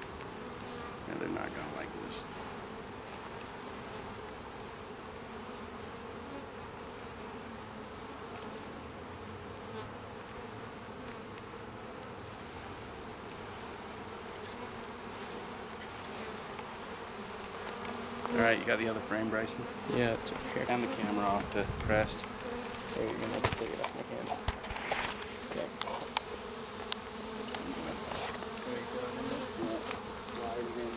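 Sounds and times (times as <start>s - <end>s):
bees buzzing: 0.0s - 30.9s.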